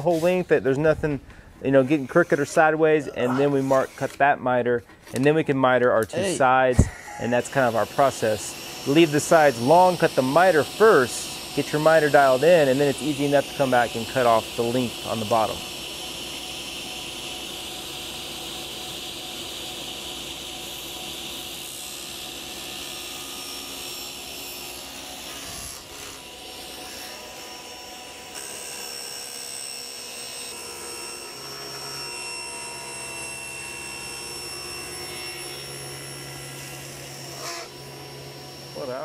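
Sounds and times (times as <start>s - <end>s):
saw motor hum: 1.7s - 4.4s, 6.2s - 39.0s
table saw cutting wood: 1.7s - 4.8s, 6.2s - 39.0s.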